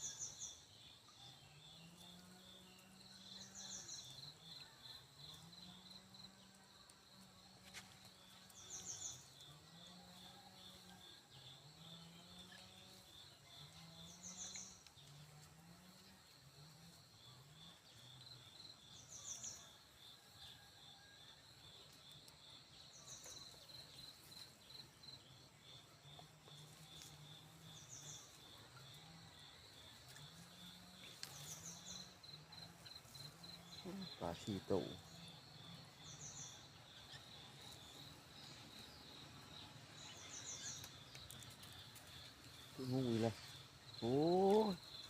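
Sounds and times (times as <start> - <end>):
insects trilling: 0.0 - 45.0.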